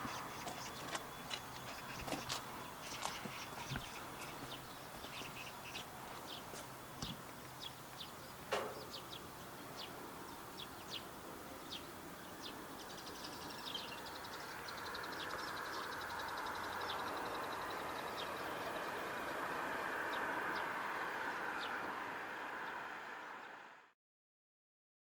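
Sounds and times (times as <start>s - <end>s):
small birds chirping: 0.0s - 23.6s.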